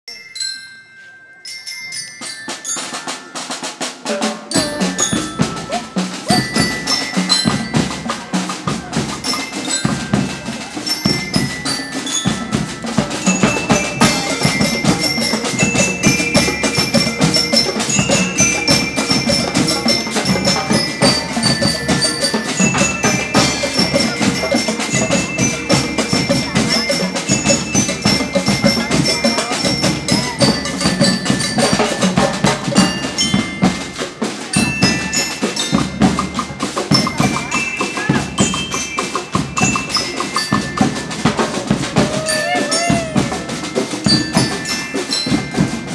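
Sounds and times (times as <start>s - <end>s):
bell lyres ringing: 0.1s - 45.9s
marching band playing: 2.2s - 45.9s
bass drum and snare beating: 4.1s - 45.9s.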